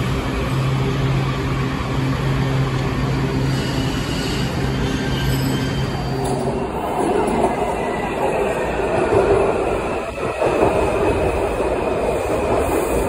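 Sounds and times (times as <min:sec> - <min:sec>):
train equipment hum: 0:00.0 - 0:13.0.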